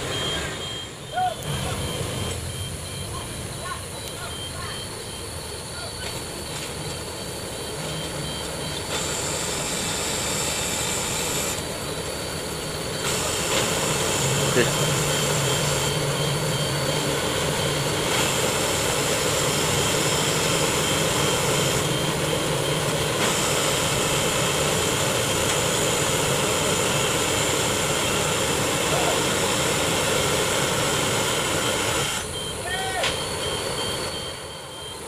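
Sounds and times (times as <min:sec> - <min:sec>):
heavy diesel truck engines droning: 0:00.0 - 0:35.0.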